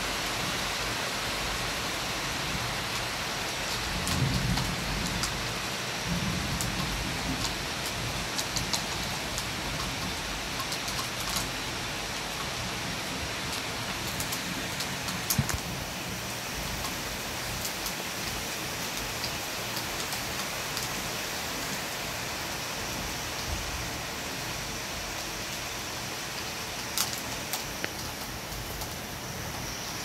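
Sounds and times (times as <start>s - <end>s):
rain pouring: 0.0s - 30.0s
raindrops tapping close by: 2.4s - 22.0s, 25.2s - 29.9s.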